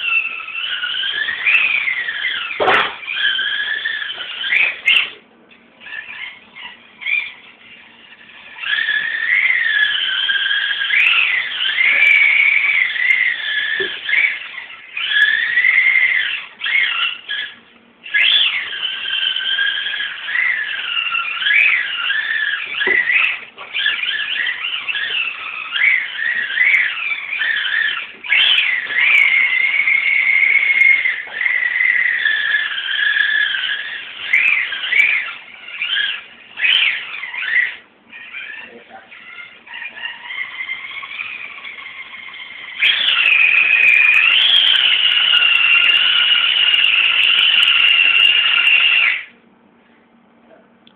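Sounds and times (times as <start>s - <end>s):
toy car electric motor whining: 0.0s - 5.2s, 5.8s - 49.3s.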